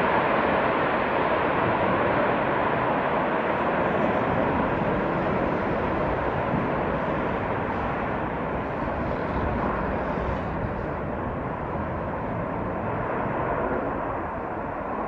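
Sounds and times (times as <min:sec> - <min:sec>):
jet engine roaring at takeoff: 0:00.0 - 0:15.0.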